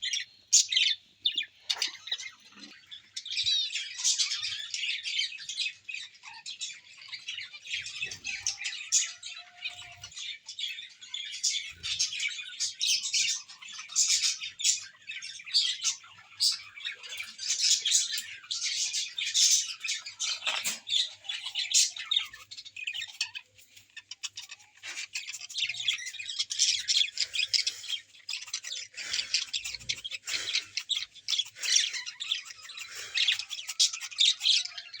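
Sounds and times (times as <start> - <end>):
small birds chirping and squawking: 0.0 - 35.0.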